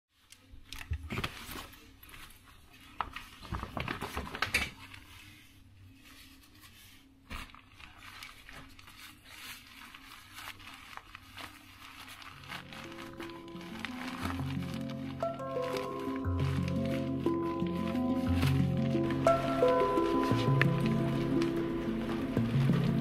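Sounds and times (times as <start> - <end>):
gear rustling and crinkling: 0.2 - 23.0.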